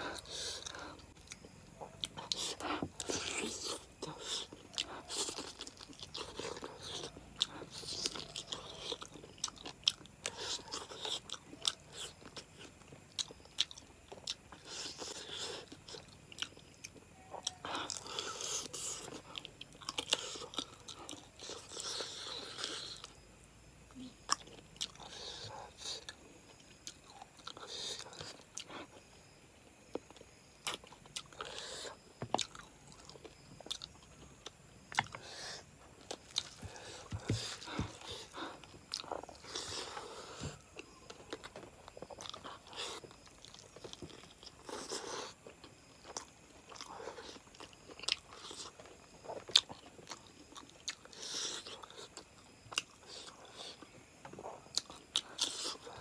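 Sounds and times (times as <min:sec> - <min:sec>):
person chewing: 0:00.0 - 0:23.2, 0:24.0 - 0:29.1, 0:29.8 - 0:56.0.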